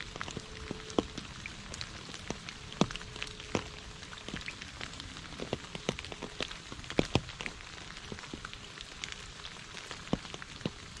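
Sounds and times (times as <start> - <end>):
rain pattering on puddle and leaves: 0.0 - 11.0.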